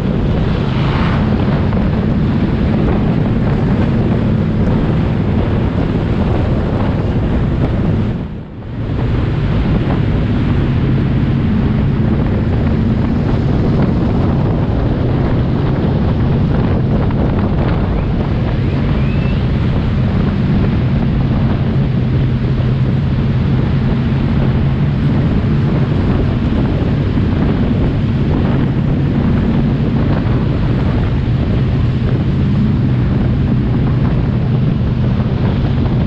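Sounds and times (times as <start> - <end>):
racing car engines: 0.0 - 36.0
wind buffeting microphone: 0.0 - 36.0.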